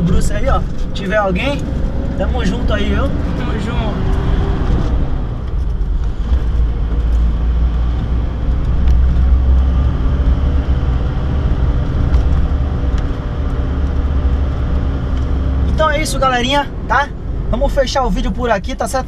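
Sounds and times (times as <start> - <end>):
engine and road rumble in car: 0.0 - 19.0.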